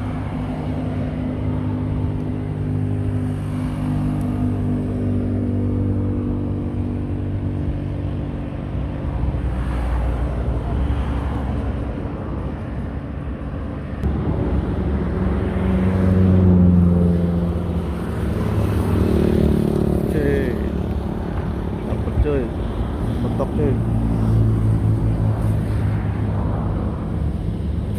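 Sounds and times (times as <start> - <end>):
highway traffic passing: 0.0 - 27.9.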